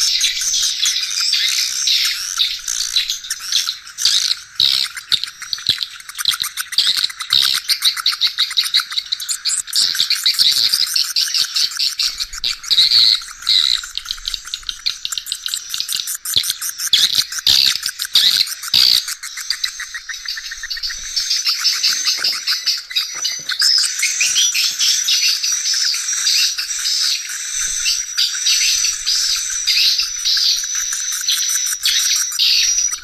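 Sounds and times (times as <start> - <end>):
swiftlets twittering: 0.0 - 33.0.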